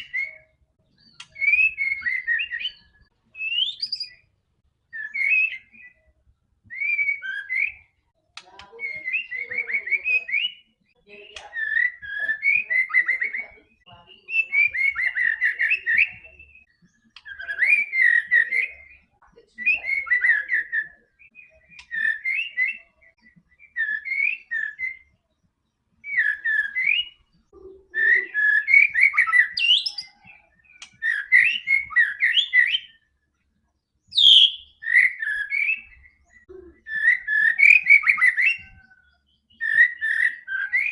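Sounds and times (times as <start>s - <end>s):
bird singing whistled phrases: 0.0s - 4.3s, 4.9s - 8.0s, 8.6s - 25.3s, 26.0s - 33.1s, 34.0s - 40.9s.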